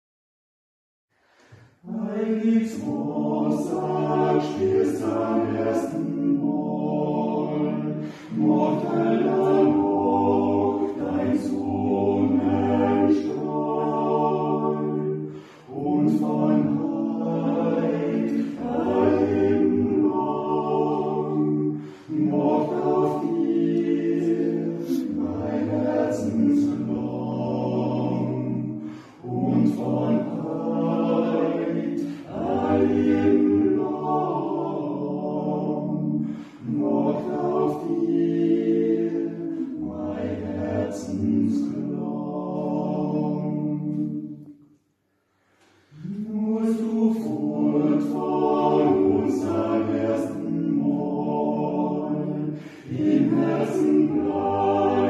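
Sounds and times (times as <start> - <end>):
male quartet singing a cappella: 1.4 - 44.6, 45.4 - 55.0.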